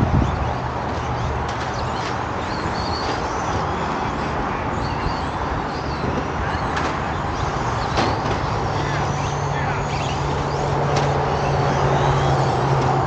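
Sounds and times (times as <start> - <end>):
gliding motor whines: 0.0 - 13.0
toy truck motors whirring: 0.2 - 13.0.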